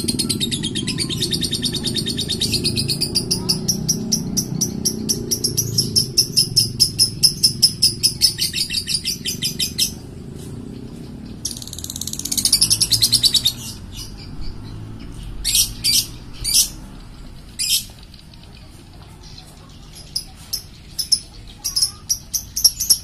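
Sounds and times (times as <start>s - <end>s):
steady low rumble: 0.0s - 20.8s
bird chirping: 0.0s - 23.0s.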